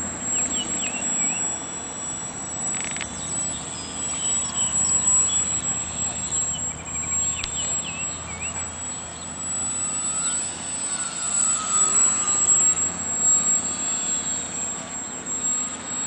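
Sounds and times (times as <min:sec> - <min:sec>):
model plane motor whine: 0:00.0 - 0:16.0.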